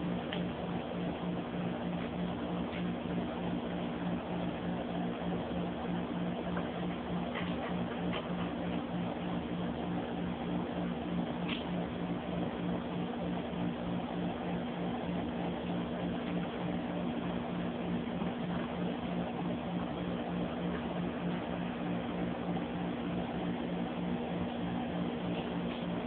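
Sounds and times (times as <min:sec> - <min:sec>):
pulsing mechanical hum with hiss: 0:00.0 - 0:26.0.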